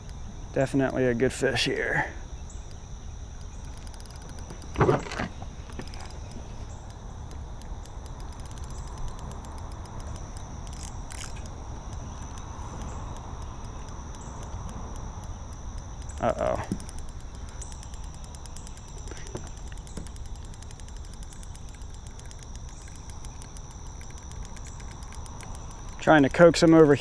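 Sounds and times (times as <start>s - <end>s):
fishing reel drag ticking: 0.0s - 27.0s
insect chirring: 0.0s - 27.0s.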